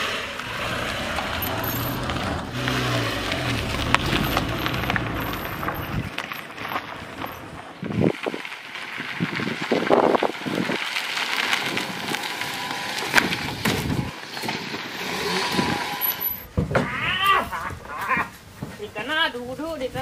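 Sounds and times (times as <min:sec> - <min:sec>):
car engine: 0:00.0 - 0:16.6
tyres crunching over gravel: 0:00.3 - 0:16.6.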